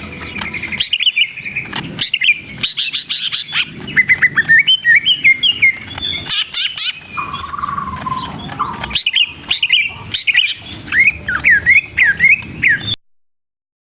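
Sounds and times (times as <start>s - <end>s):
downward-sliding bird calls: 0.0s - 13.0s
young birds chirping: 0.0s - 13.0s.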